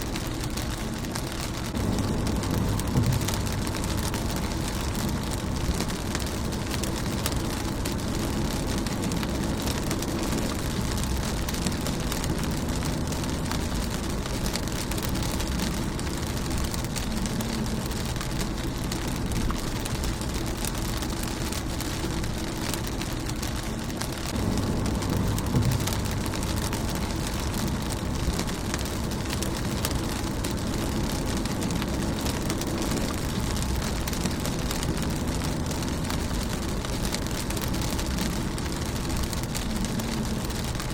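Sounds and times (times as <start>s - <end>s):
low rumble: 0.0s - 40.9s
rain on a car: 0.0s - 40.9s.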